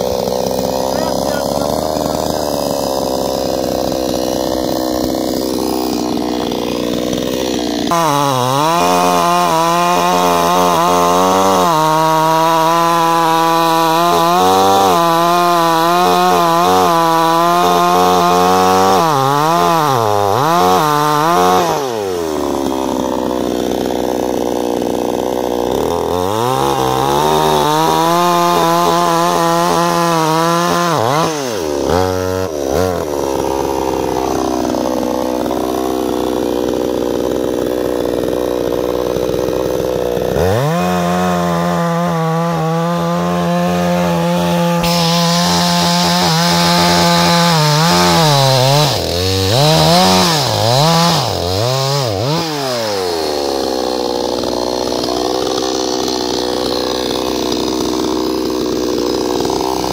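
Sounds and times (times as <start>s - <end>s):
chainsaw cutting through log: 0.0s - 59.9s.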